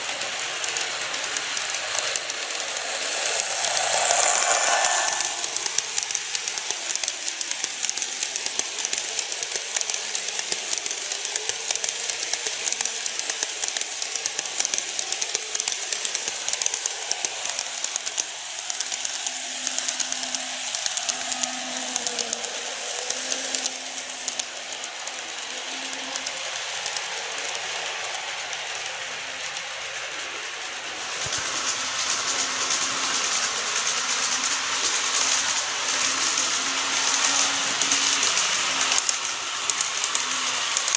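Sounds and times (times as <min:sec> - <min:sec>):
model train wheels rattling: 0:00.0 - 0:40.9.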